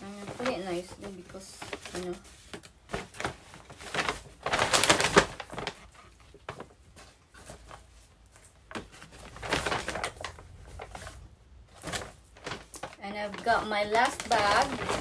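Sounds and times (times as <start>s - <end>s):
clothes rustling: 0.0s - 15.0s
paper bag rustling: 0.0s - 15.0s.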